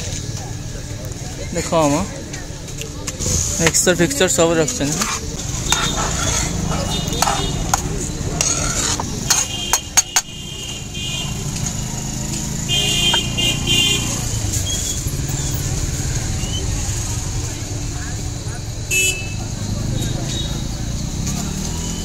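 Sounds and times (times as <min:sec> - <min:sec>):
crowd chatter: 0:00.0 - 0:22.0
passing vehicles: 0:00.0 - 0:22.0.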